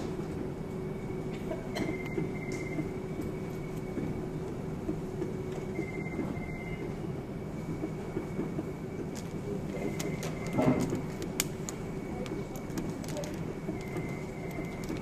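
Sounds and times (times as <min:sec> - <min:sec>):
machinery humming and rumbling: 0:00.0 - 0:15.0.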